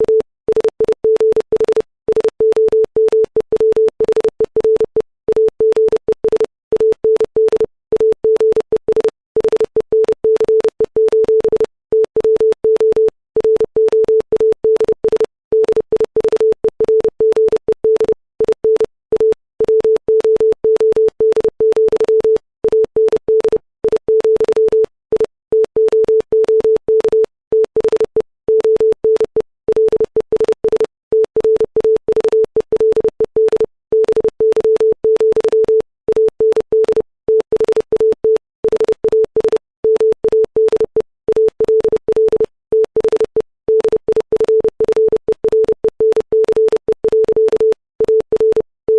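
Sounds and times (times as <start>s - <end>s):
morse code sine tone: 0.0s - 48.9s.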